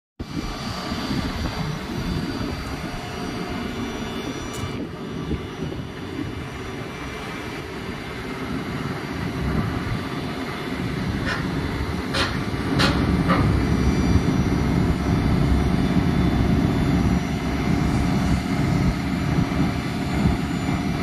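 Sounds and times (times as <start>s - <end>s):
compressor machinery drone: 0.2s - 21.0s
hum and whine tones: 0.2s - 21.0s.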